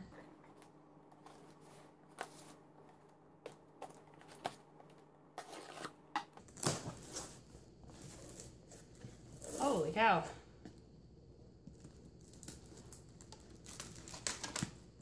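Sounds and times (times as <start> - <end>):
cardboard and tape rustling: 0.2 - 10.0, 11.7 - 15.0.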